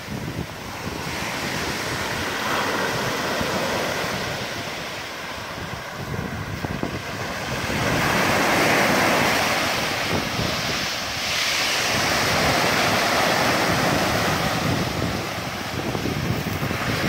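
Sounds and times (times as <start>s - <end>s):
sea surf breaking on beach: 0.0s - 17.0s.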